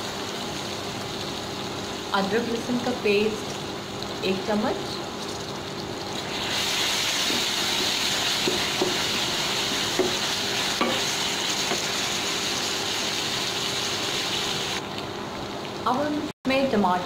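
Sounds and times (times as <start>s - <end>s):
onions sizzling in hot oil: 0.0s - 16.3s.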